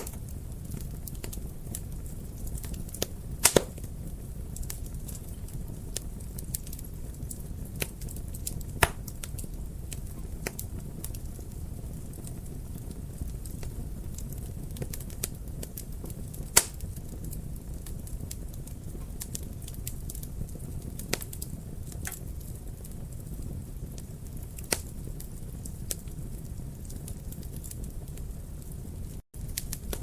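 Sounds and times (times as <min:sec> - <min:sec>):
loud fire pops: 0:00.0 - 0:30.0
wood fire crackling: 0:00.0 - 0:30.0.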